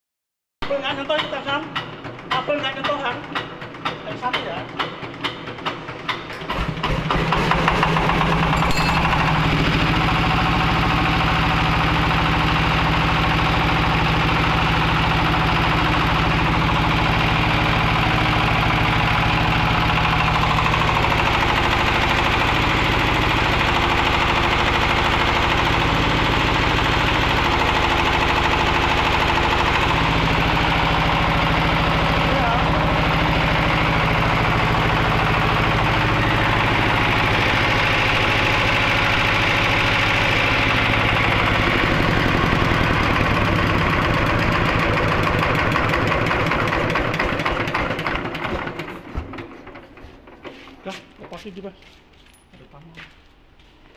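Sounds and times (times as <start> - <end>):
diesel engine running: 6.4 - 50.4.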